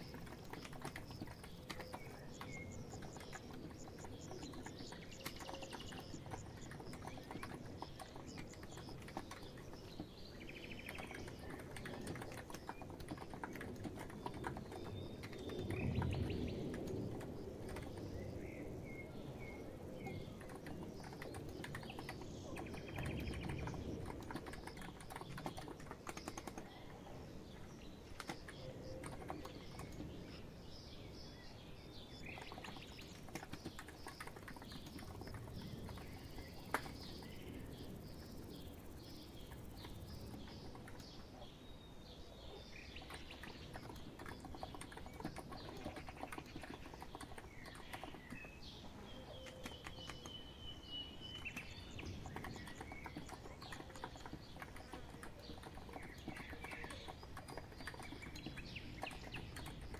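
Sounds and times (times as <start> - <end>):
sharp keyboard click: 0.0 - 18.2, 20.0 - 26.9, 27.5 - 30.1, 32.2 - 41.2, 42.7 - 48.7, 49.4 - 50.4, 51.3 - 59.9
soft keyboard typing: 0.0 - 18.4, 19.9 - 30.4, 32.1 - 41.5, 42.4 - 59.9.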